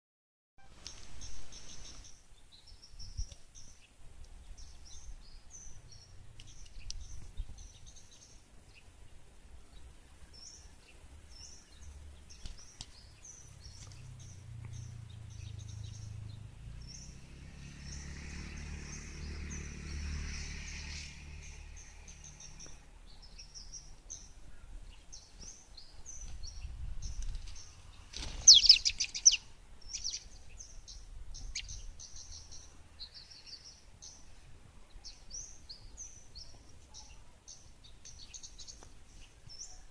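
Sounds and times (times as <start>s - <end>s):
bird chirping: 0.6s - 39.9s.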